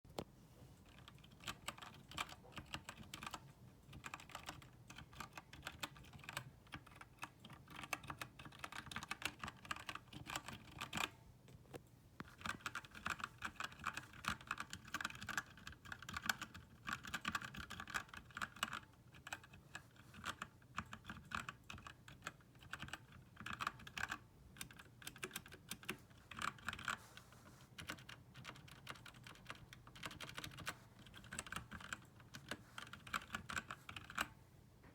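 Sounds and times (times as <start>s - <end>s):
mechanical keyboard typing: 0.9s - 11.2s, 12.2s - 27.0s, 27.6s - 34.4s.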